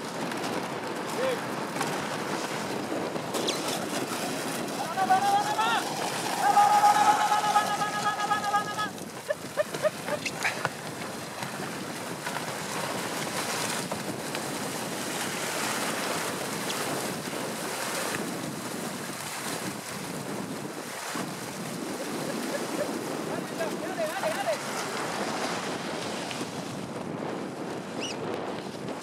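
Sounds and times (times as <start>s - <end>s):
sled dogs splashing through water: 0.0s - 26.8s
wind on microphone: 0.0s - 29.0s.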